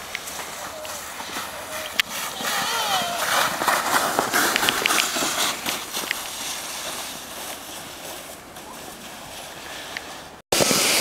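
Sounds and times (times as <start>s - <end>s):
sled scraping on snow: 0.0s - 11.0s.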